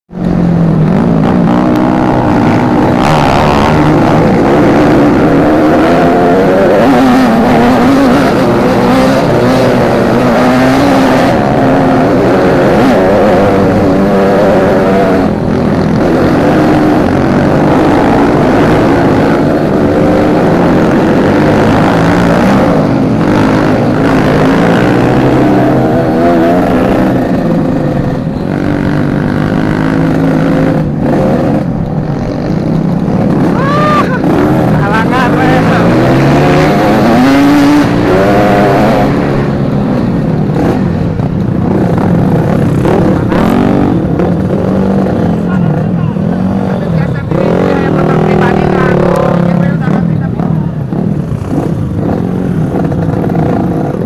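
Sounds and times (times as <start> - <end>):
motorcycle engines revving: 0.1 - 54.0.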